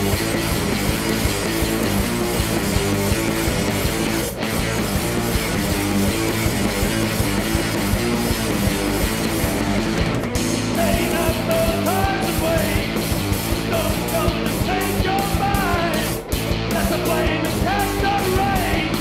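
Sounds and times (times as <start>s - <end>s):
bass guitar: 0.0s - 19.0s
distorted electric guitar: 0.0s - 19.0s
drums: 0.0s - 19.0s.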